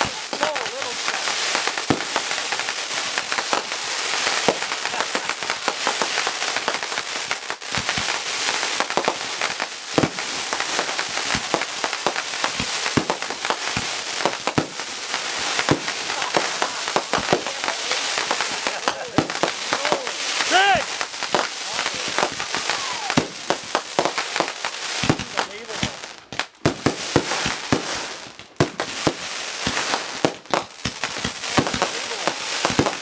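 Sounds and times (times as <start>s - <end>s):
firework bangs: 0.0s - 33.0s
fireworks hiss and crackle: 0.0s - 33.0s.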